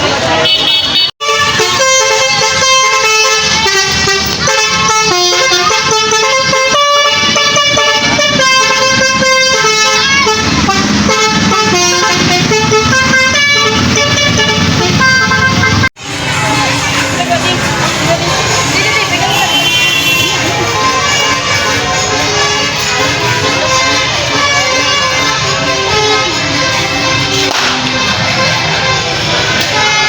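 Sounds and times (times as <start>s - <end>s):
bus horn playing a melody: 0.4s - 15.9s, 19.1s - 30.0s.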